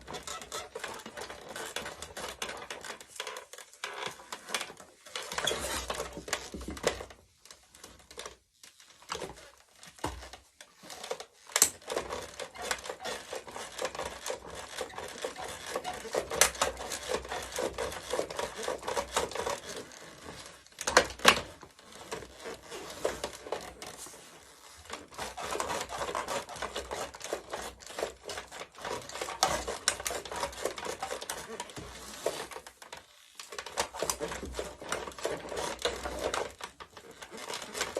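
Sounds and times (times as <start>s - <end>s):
plastic toy creaking and crackling: 0.0s - 37.9s.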